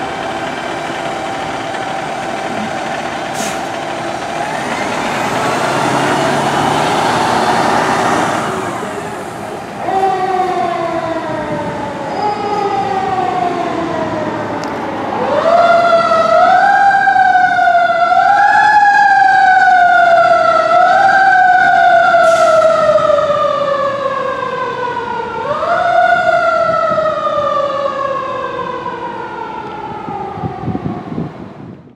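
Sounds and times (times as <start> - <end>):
fire engine siren wailing: 0.0 - 31.8.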